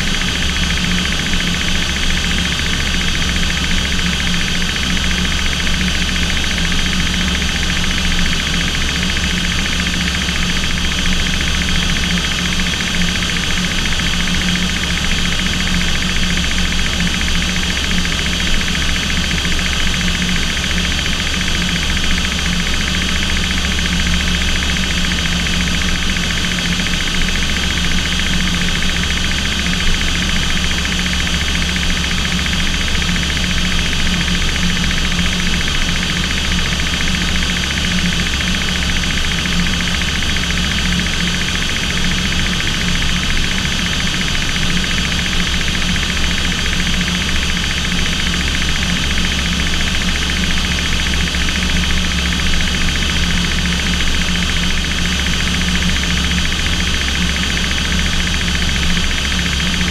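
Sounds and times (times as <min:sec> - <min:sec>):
aircraft engines droning: 0:00.0 - 0:59.9.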